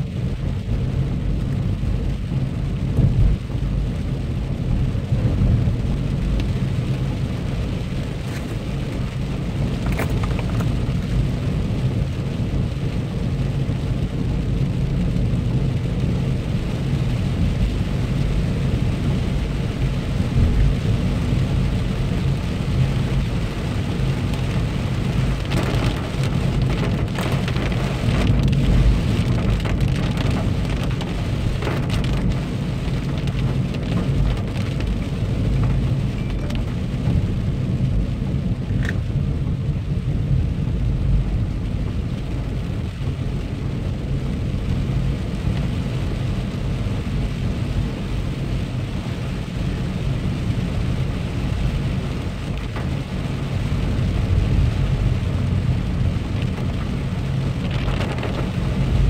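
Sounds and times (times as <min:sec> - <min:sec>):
engine and tyre hum: 0:00.0 - 0:59.0
rain on car windscreen: 0:00.0 - 0:59.0.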